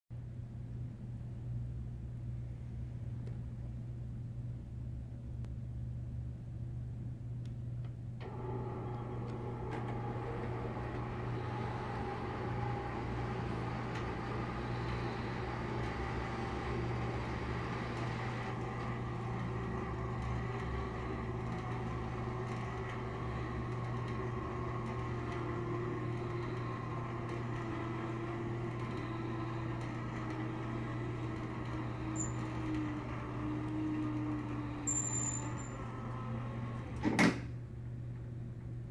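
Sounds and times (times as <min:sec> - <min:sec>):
constant low hum: 0:00.1 - 0:14.6, 0:15.2 - 0:38.9.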